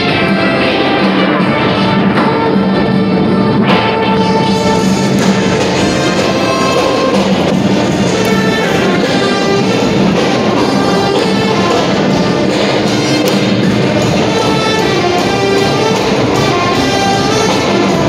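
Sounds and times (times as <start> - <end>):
music with brass and percussion: 0.0 - 18.0.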